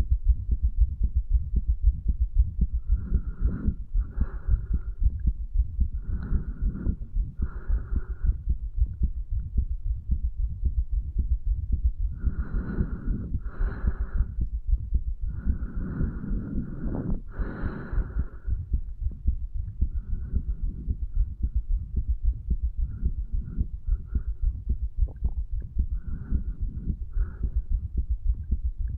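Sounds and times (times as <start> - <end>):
heartbeat low thumps: 0.0 - 28.9
breath noise: 2.4 - 9.6, 11.5 - 28.9.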